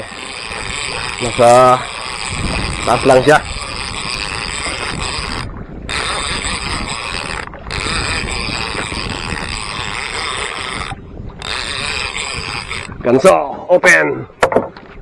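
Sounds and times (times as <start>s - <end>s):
fishing reel cranking: 0.0s - 13.4s
boat engine running: 0.0s - 13.6s
wind: 0.0s - 15.0s.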